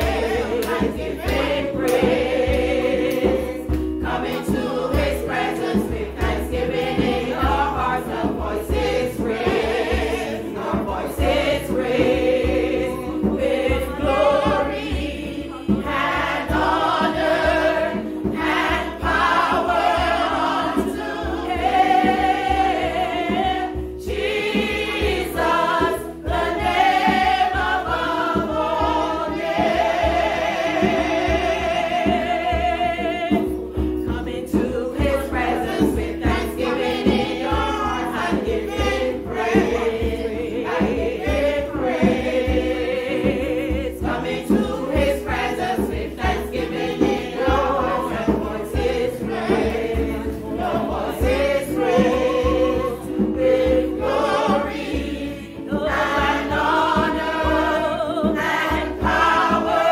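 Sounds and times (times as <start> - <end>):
women singing gospel chorus: 0.0 - 59.9.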